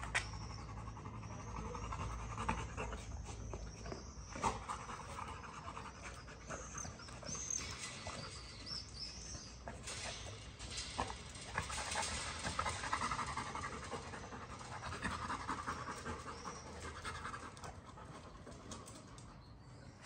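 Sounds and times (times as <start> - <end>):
dogs panting: 0.0 - 19.5.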